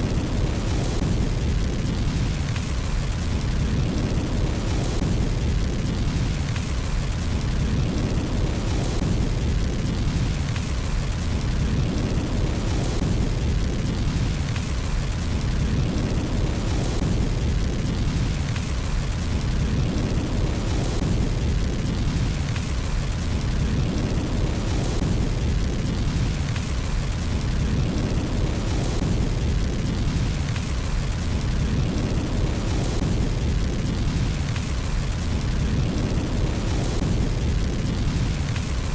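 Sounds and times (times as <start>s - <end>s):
faint fire crackles: 0.0s - 38.9s
fire low rumble: 0.0s - 38.9s.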